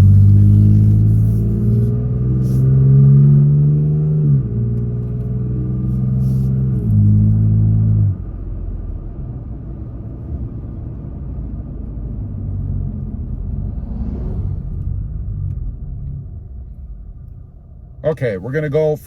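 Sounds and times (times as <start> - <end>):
truck engine and exhaust rumble: 0.0 - 19.0.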